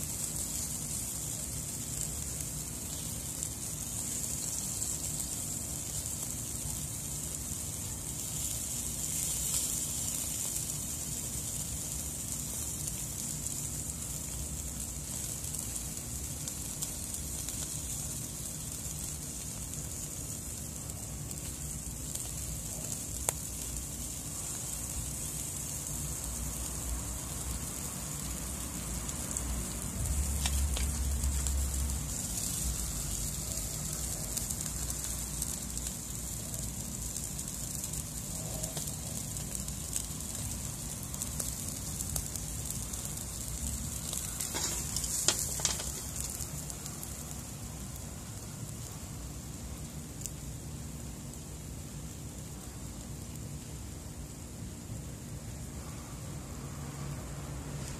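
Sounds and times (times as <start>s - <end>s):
fish sizzling on charcoal grill: 0.0s - 57.9s.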